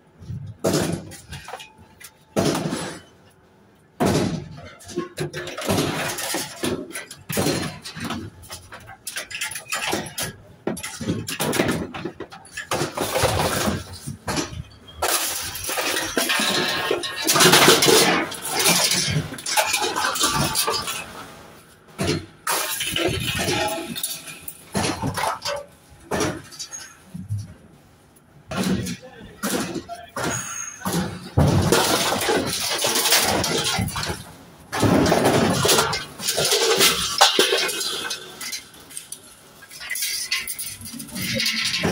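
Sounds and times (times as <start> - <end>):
scrap metal clanking and crashing: 0.1 - 27.6, 28.5 - 41.9.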